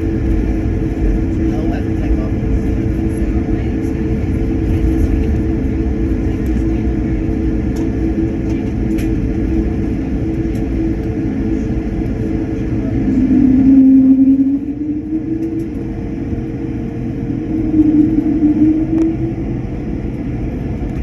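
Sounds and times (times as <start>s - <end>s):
jet engines humming: 0.0s - 21.0s
low rumble: 0.0s - 21.0s.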